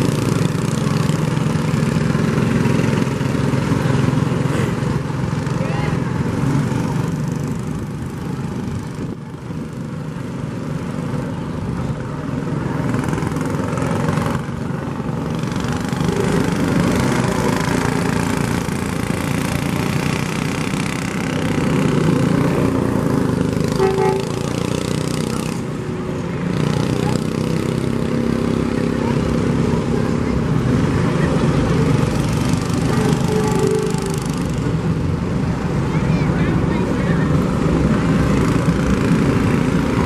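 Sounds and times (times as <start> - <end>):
vehicles driving slowly past: 0.0 - 40.0.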